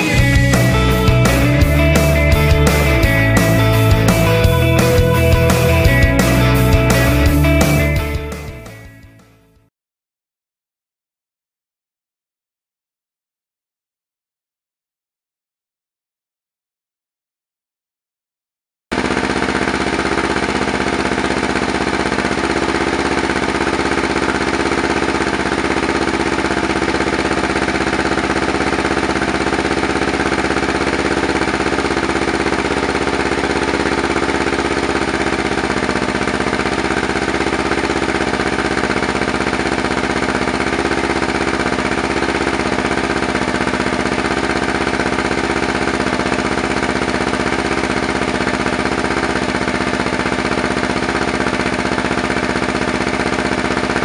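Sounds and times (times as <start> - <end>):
motorcycle engine idling: 0.0 - 9.6, 18.9 - 54.0.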